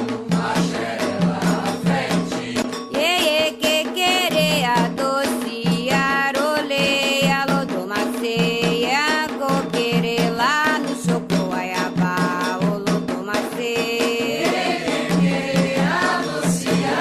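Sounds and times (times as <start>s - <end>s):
drums: 0.0s - 17.0s
rattle shaking a quick beat: 0.0s - 17.0s
voices singing a chant: 0.0s - 17.0s.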